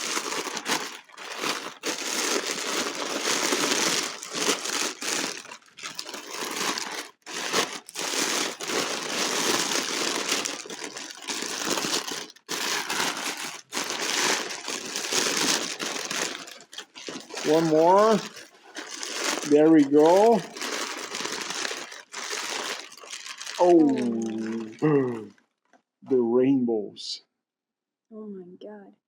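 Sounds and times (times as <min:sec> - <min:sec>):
packing paper crumpling: 0:00.0 - 0:25.3.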